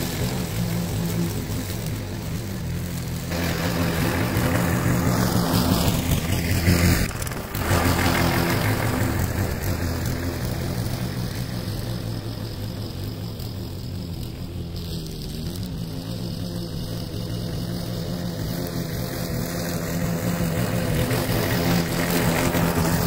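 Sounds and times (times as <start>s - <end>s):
lawn mower engine: 0.0s - 23.0s.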